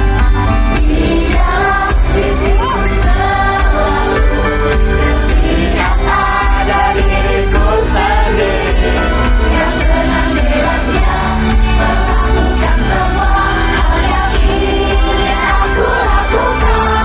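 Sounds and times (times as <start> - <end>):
pop backing track with heavy bass: 0.0 - 17.0
women singing together: 0.2 - 17.0.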